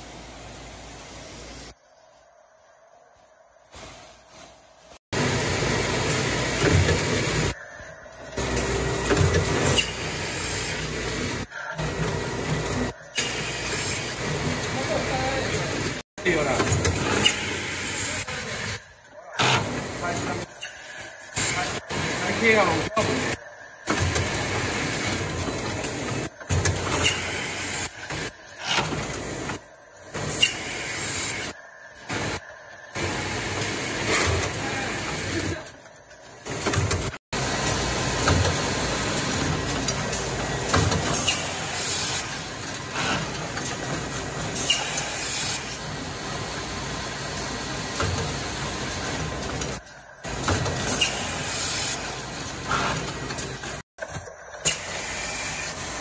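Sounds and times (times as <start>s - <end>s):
conveyor machinery running: 5.2s - 56.0s.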